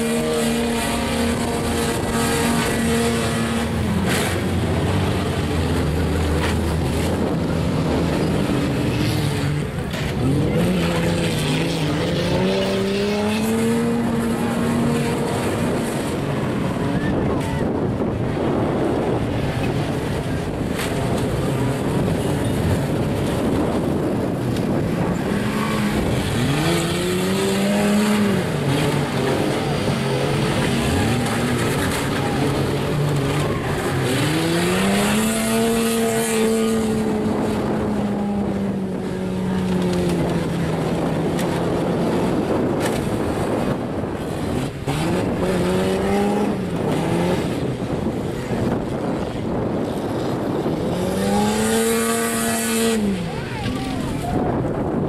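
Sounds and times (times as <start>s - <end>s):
car engines revving: 0.0s - 55.0s
steady rushing noise: 0.0s - 55.0s.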